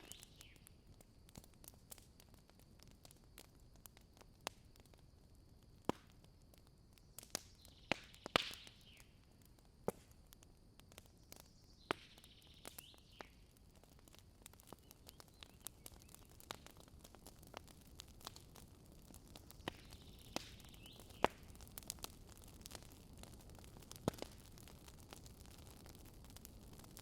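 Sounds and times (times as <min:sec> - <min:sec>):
high hisses from burning wood: 0:00.0 - 0:27.0
wood campfire crackling: 0:00.0 - 0:27.0.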